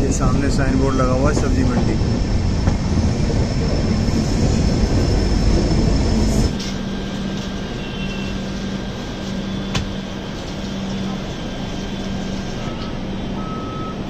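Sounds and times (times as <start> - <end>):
steady low hum: 0.0 - 14.0
train wheels rumbling on track: 0.0 - 14.0.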